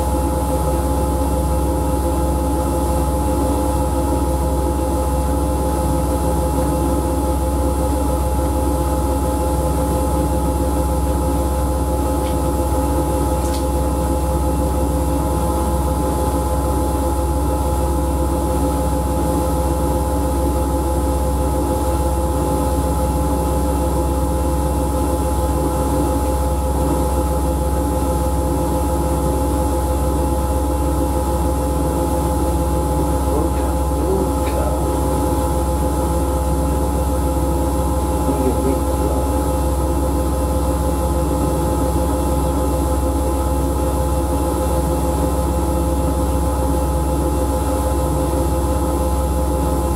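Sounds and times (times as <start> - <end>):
washing machine humming with whine: 0.0 - 49.9.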